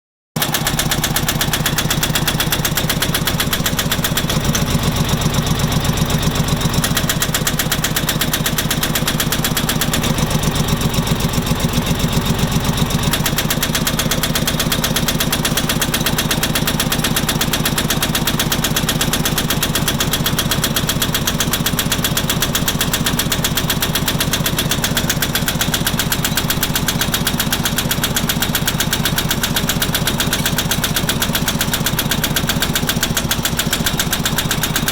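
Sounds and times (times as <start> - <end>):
tractor diesel engine knocking: 0.4 - 34.9.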